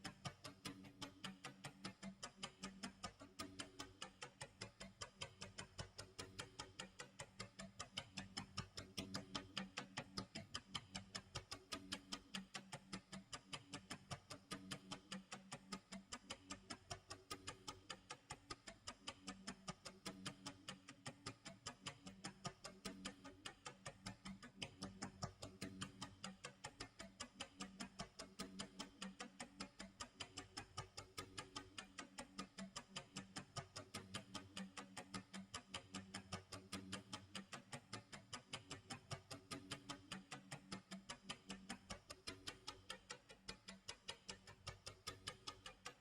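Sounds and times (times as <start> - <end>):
clock ticking: 0.0 - 46.0.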